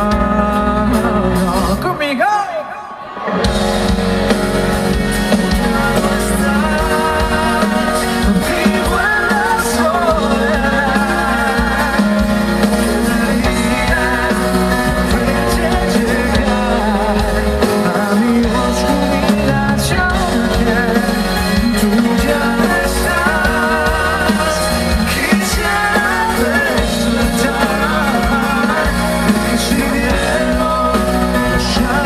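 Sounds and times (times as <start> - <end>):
live band music: 0.0 - 32.0.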